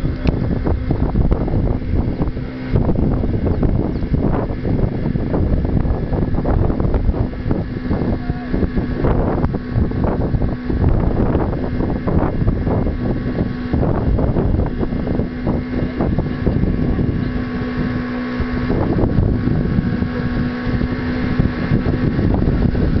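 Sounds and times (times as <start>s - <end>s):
boat motor running: 0.0s - 23.0s
wind buffeting microphone: 0.0s - 23.0s.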